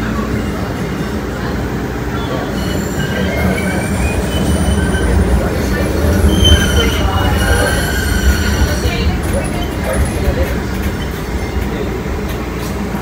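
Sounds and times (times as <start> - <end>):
light-rail car rumble: 0.0 - 13.0
steel wheels squealing on rails: 0.0 - 13.0.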